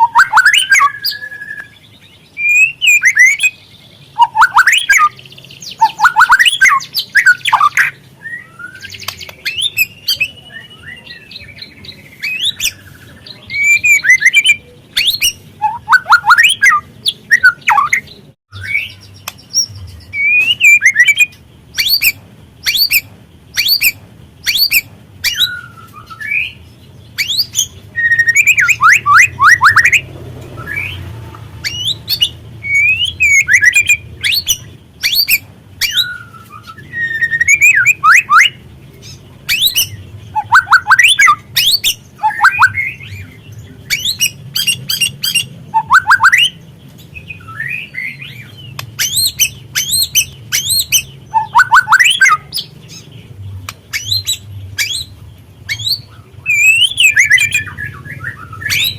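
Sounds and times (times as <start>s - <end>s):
bird chirping and whistling: 0.0s - 58.9s.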